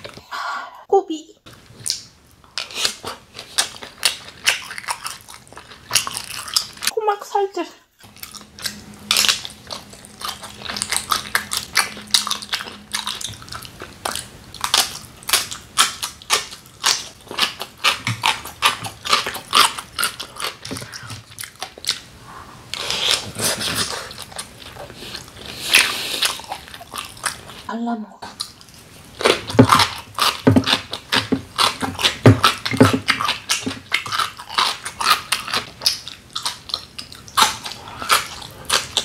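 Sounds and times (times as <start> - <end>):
close chewing with wet mouth clicks: 1.5 - 6.9, 8.0 - 22.1, 22.7 - 39.0.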